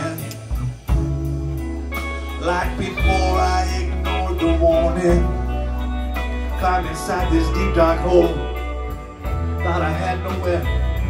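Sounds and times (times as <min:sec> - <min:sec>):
bass guitar: 0:00.0 - 0:11.0
drums: 0:00.0 - 0:11.0
electric guitar: 0:00.0 - 0:11.0
keyboards: 0:00.0 - 0:11.0.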